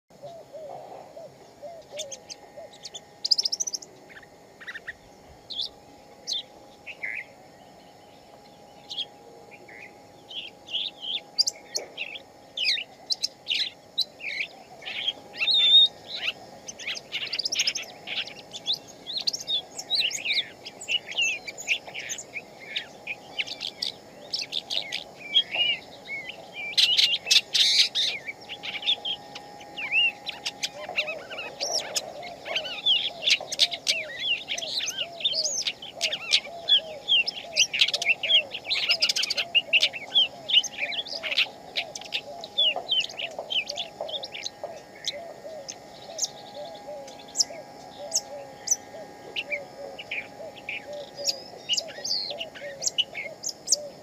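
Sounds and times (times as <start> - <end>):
lower rapidly repeated bird call: 0.1 - 54.0
songbirds chirping and trilling: 0.1 - 54.0.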